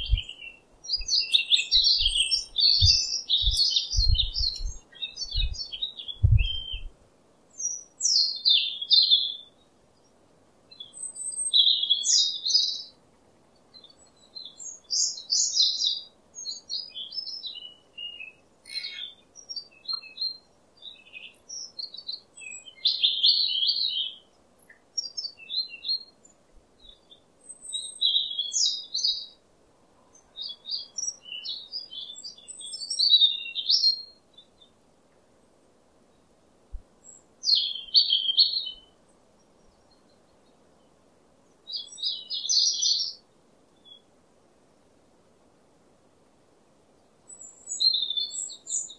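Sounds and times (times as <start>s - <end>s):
songbirds chirping and singing: 0.0s - 13.0s, 13.6s - 29.4s, 30.0s - 35.2s, 37.0s - 44.1s, 47.0s - 48.9s.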